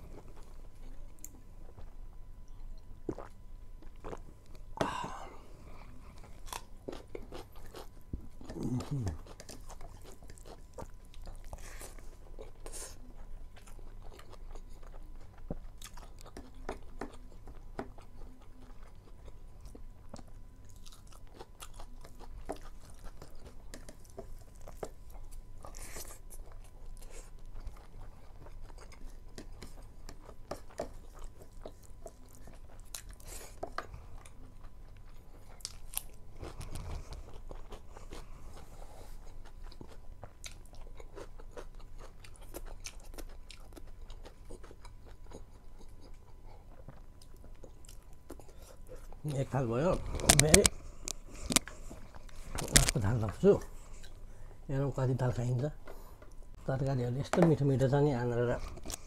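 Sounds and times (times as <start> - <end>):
person chewing food: 0.0 - 56.6, 57.6 - 59.0
faint low hum: 0.0 - 59.0.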